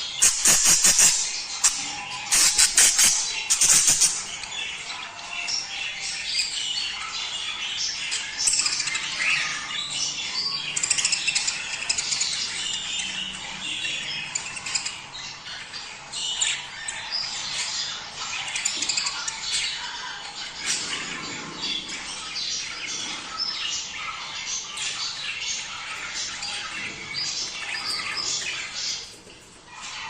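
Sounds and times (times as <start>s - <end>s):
budgerigars chattering: 0.0s - 4.7s, 6.9s - 30.0s.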